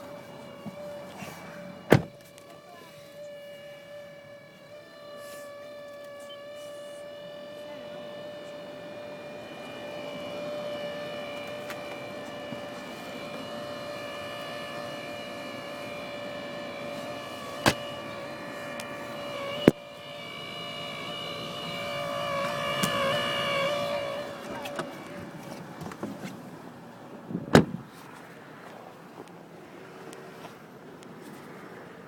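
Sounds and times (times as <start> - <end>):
blower fan whining: 0.0 - 30.3.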